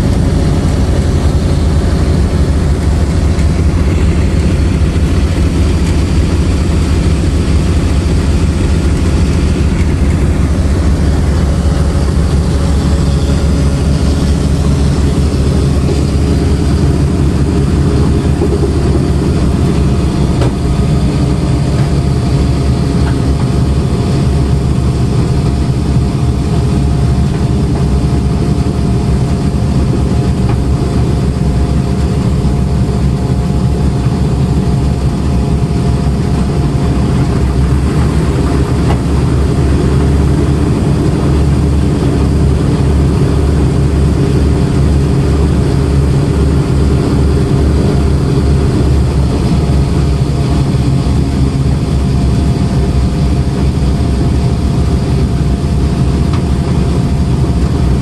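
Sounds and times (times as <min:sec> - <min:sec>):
radial aircraft engines droning: 0:00.0 - 0:58.0.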